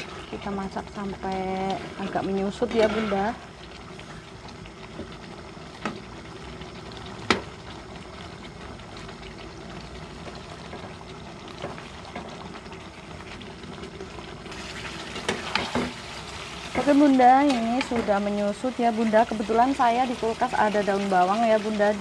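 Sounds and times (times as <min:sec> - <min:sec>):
sauce simmering and bubbling: 0:00.0 - 0:22.0.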